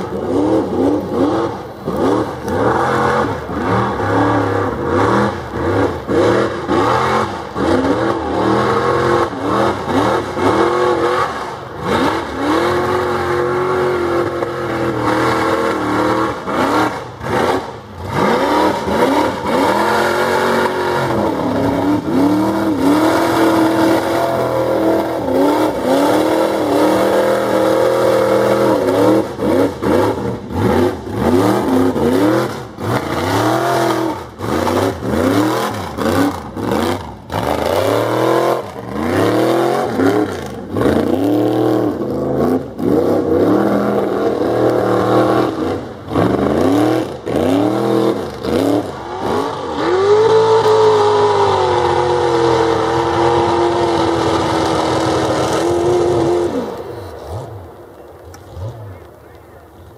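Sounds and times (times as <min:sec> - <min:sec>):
truck engine revving: 0:00.0 - 0:59.2.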